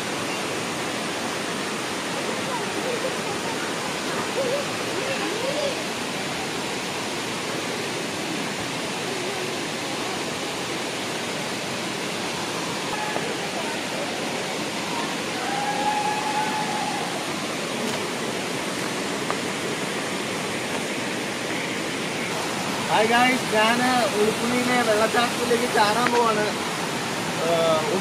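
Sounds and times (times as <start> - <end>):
water flowing over rocks: 0.0 - 28.0.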